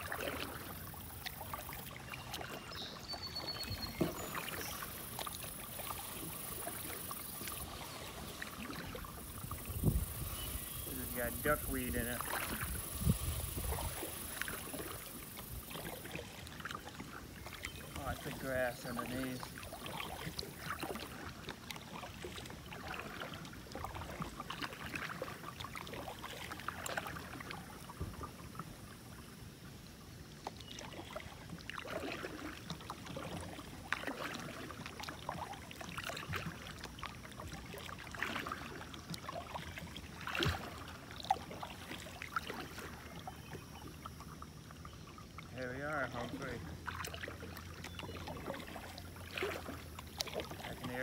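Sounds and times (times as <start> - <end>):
water splashes and drips: 0.0 - 29.2, 29.8 - 51.0
kayak paddle dipping into water: 0.0 - 51.0.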